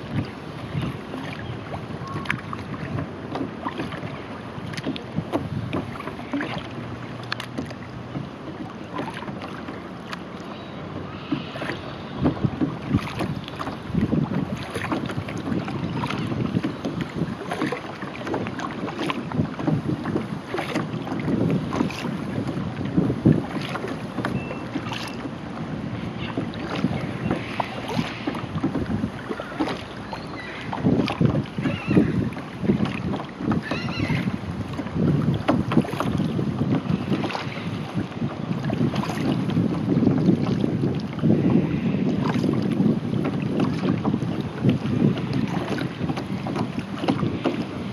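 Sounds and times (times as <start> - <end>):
wind on microphone: 0.0 - 9.8, 10.8 - 47.9
paddle splashing water: 0.0 - 47.9.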